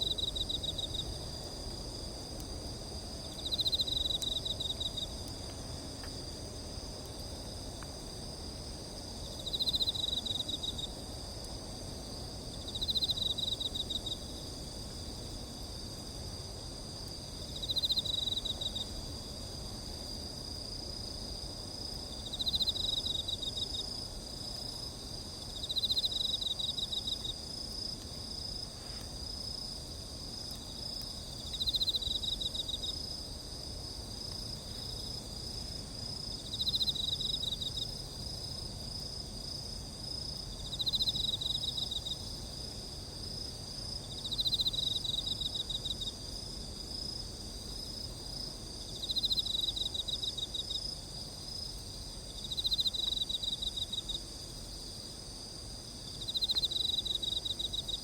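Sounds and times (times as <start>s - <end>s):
cricket continuous high trill: 0.0s - 58.0s
cricket pulsed trill: 0.0s - 58.0s
low background noise: 0.0s - 58.0s.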